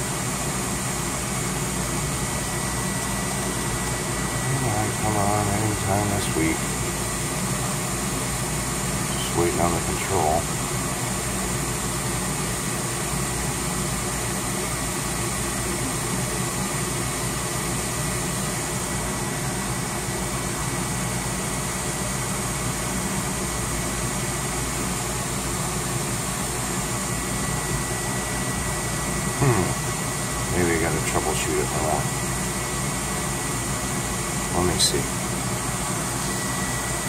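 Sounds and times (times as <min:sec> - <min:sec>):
furnace inducer fan running: 0:00.0 - 0:37.0.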